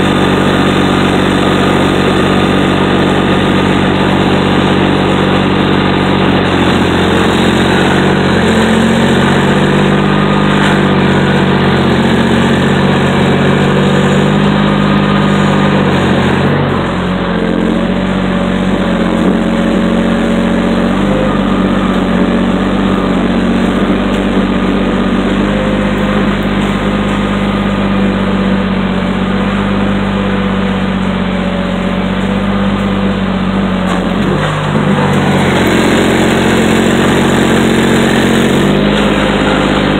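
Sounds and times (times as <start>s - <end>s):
heavy diesel machines running: 0.0s - 39.9s
truck engine from inside cab: 0.0s - 39.9s.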